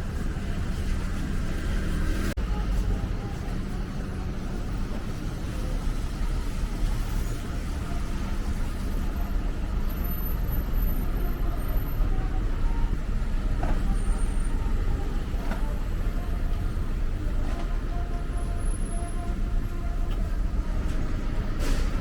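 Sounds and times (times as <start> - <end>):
passing cars and buses rumbling: 0.0 - 22.0.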